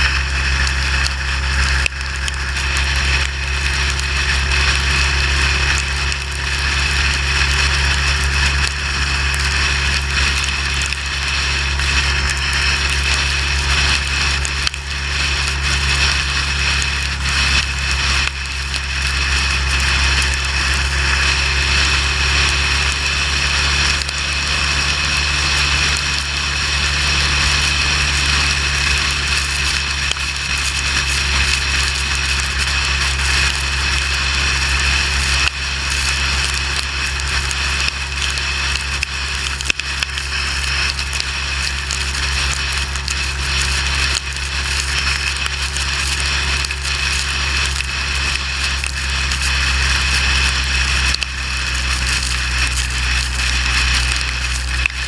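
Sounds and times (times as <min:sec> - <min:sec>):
motorcycle engine drone: 0:00.0 - 0:55.0.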